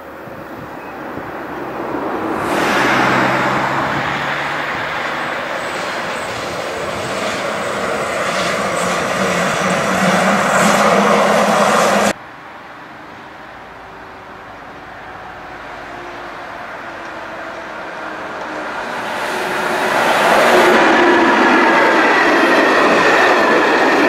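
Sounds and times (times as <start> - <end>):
electric locomotive hum: 0.0 - 24.0
wheels rumbling on rails: 0.0 - 24.0.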